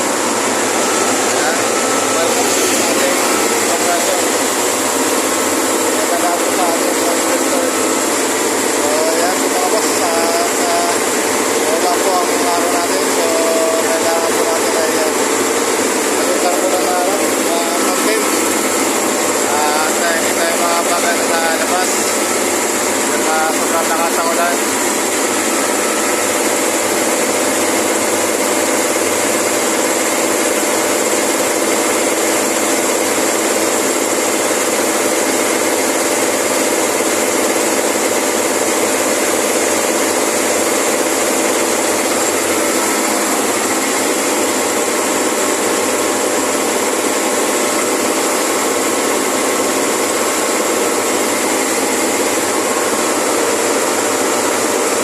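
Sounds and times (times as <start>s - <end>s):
refrigeration compressor drone: 0.0s - 55.0s.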